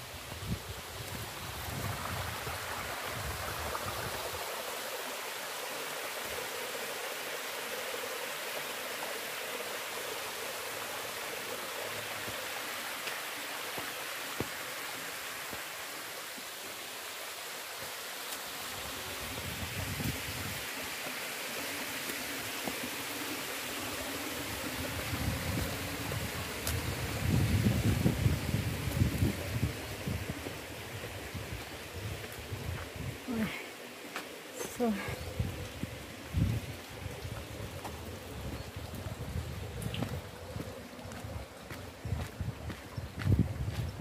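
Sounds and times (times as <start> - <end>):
stream splashing over rocks: 0.4 - 44.0.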